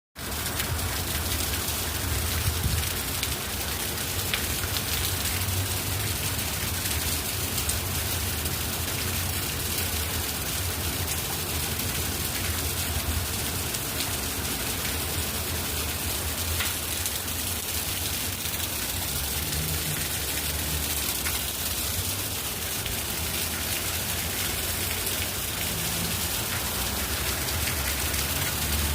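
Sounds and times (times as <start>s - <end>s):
heavy rain falling: 0.2s - 28.9s.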